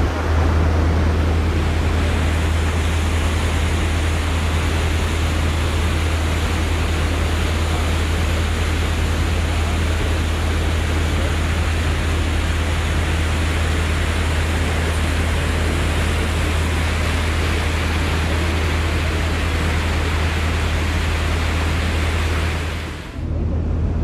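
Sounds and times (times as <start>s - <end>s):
churning wake water: 0.0s - 23.3s
low engine drone: 0.0s - 24.0s.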